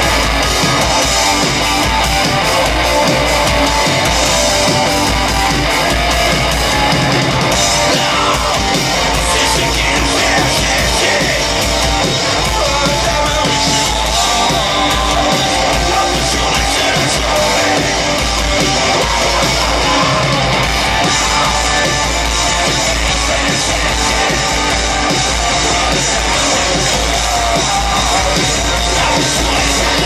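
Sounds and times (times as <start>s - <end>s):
bass: 0.0s - 30.0s
distorted electric guitars: 0.0s - 30.0s
drums: 0.0s - 30.0s.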